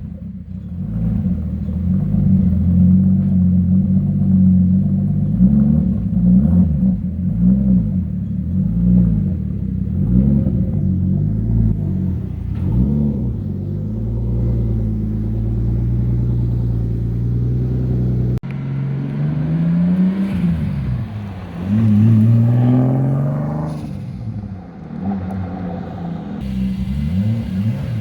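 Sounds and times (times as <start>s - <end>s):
car engine revving: 0.1s - 28.0s.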